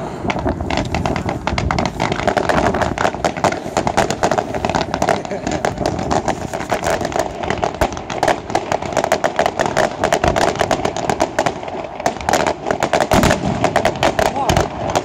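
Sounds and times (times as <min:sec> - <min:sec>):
deep firework booms: 0:00.0 - 0:15.0
fireworks crackling and banging: 0:00.0 - 0:15.0.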